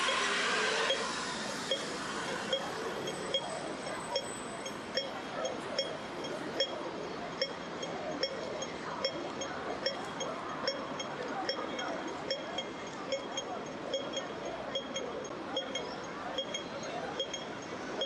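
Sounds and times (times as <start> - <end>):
crossing signal ticking: 0.0 - 18.0
street hum: 0.0 - 18.0.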